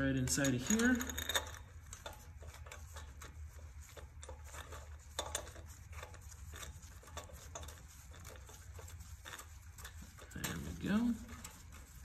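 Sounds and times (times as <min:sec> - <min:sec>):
small metal clicks and scrapes: 0:00.0 - 0:12.0
steady low hum: 0:00.0 - 0:12.0.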